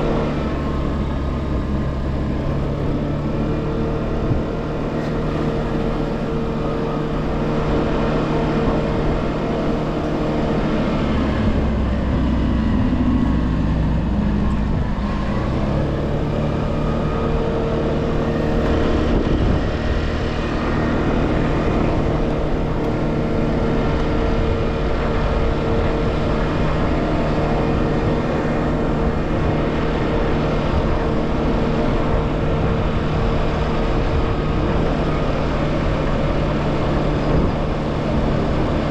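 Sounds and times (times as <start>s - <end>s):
road and wind noise: 0.0s - 38.9s
scooter engine running: 0.0s - 38.9s.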